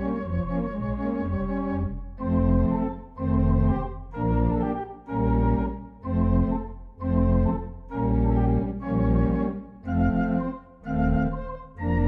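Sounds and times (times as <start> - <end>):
organ playing sustained chords: 0.0 - 12.0.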